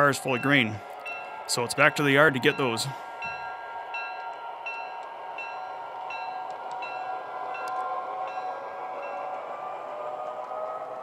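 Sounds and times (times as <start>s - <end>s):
locomotive bell ringing: 0.0s - 9.4s.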